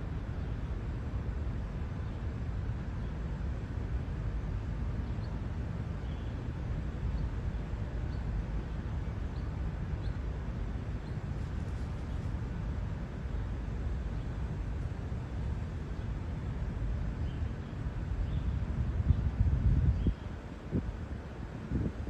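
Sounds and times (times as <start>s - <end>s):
street traffic rumble: 0.0s - 22.0s
wind: 0.0s - 22.0s.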